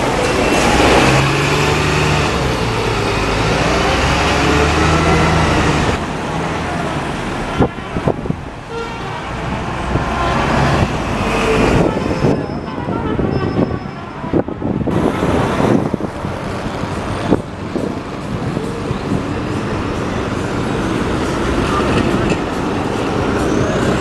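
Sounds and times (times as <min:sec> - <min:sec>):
bus passing: 0:00.0 - 0:24.0
vehicle engines droning: 0:00.0 - 0:24.0.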